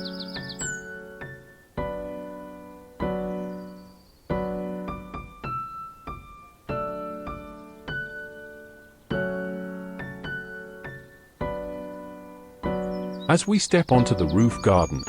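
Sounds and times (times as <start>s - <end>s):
slow solo piano chords: 0.0s - 15.0s.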